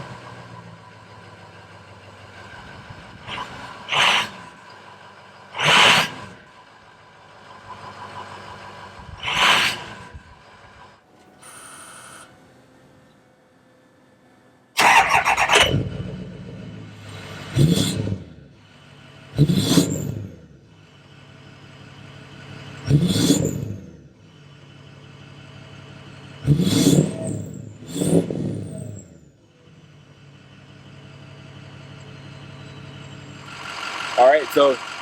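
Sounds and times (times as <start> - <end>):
engine revving: 0.0 - 11.0, 14.8 - 35.0
diesel engine idling: 0.0 - 11.7, 12.3 - 27.9, 28.5 - 35.0.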